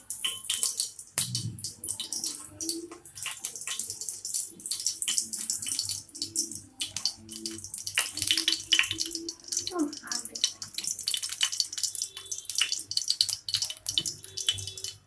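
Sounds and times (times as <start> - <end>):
seeds sizzling in hot oil: 0.0 - 15.0.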